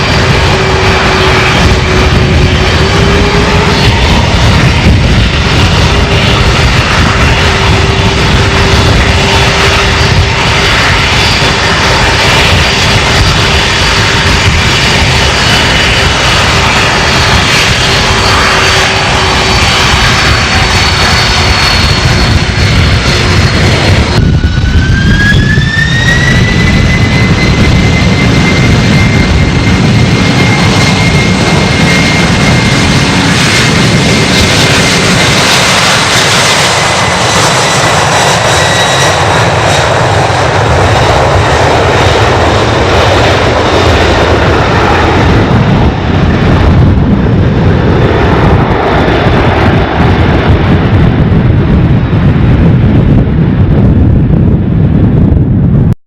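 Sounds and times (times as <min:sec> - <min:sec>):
high turbine whine: 0:00.0 - 0:56.0
jet engine roar: 0:00.0 - 0:56.0.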